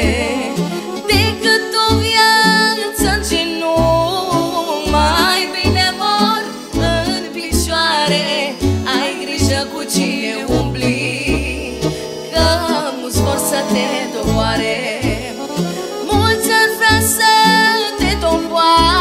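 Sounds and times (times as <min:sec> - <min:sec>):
keyboard accompaniment: 0:00.0 - 0:19.0
woman singing: 0:00.0 - 0:19.0.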